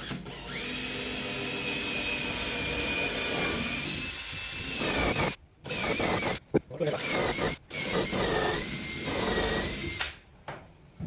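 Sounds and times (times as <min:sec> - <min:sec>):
power drill whining: 0:00.0 - 0:10.2.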